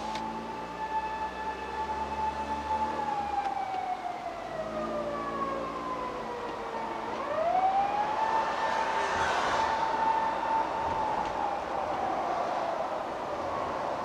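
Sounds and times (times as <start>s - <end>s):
police siren wailing: 0.2s - 14.0s.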